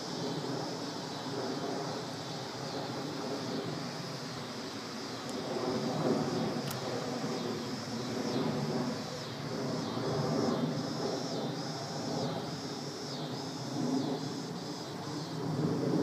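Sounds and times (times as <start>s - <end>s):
model plane droning overhead: 0.0s - 16.0s.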